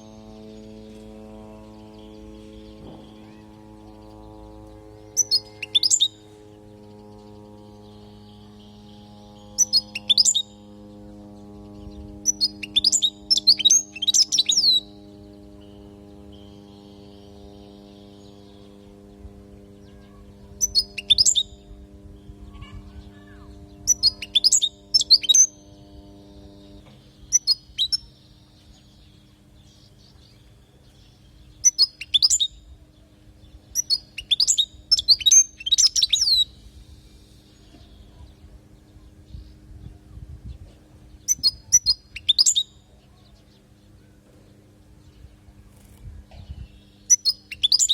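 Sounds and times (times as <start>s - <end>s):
bird twittering: 0.0s - 19.0s, 19.6s - 39.7s, 41.1s - 44.2s, 45.0s - 47.9s
steady low hum: 0.0s - 47.9s.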